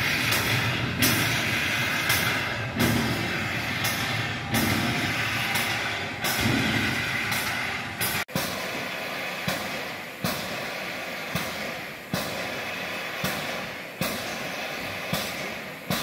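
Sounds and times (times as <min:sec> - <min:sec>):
steam locomotive hissing: 0:00.0 - 0:16.0
steam locomotive puffs: 0:00.0 - 0:16.0.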